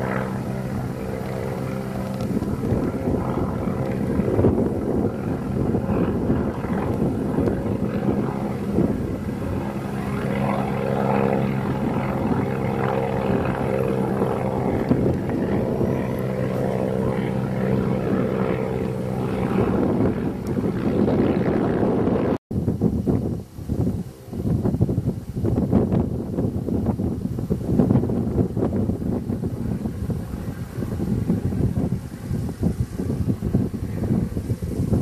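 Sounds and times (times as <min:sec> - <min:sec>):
propeller plane drone: 0:00.0 - 0:35.0.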